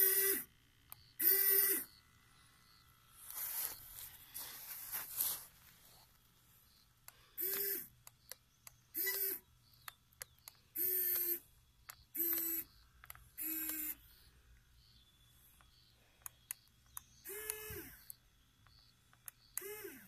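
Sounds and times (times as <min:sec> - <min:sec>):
winch motor whining: 0:00.0 - 0:04.5, 0:06.6 - 0:20.0.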